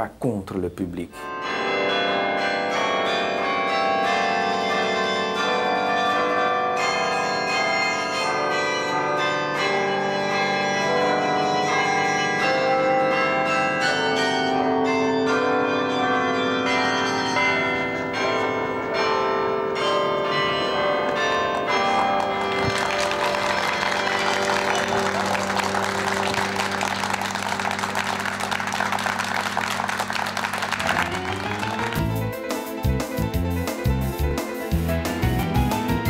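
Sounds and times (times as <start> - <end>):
carillon bells playing melody: 1.2 - 33.8.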